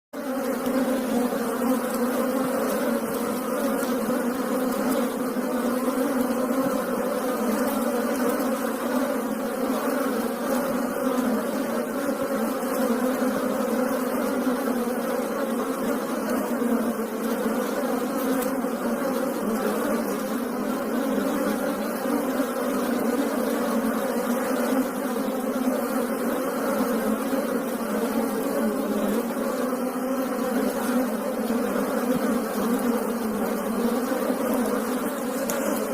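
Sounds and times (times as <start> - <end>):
bees buzzing: 0.2 - 35.9.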